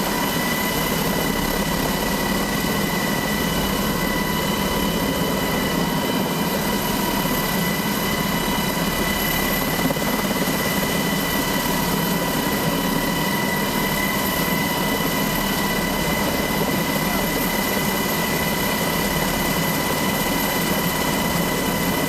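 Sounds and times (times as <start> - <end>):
helicopter rotor rushing: 0.0 - 22.0
helicopter turbine whine: 0.0 - 22.0.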